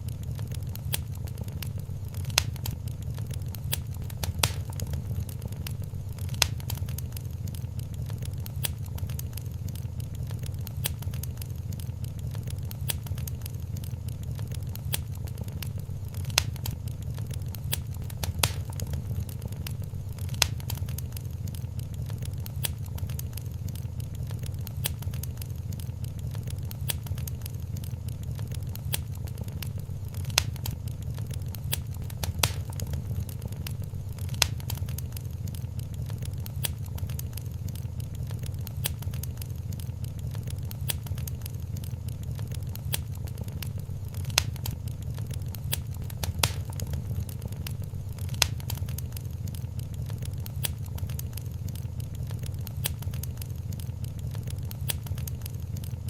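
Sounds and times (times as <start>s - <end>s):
fire popping: 0.0s - 56.0s
flames rumbling: 0.0s - 56.0s
wood fire crackling: 0.0s - 56.0s.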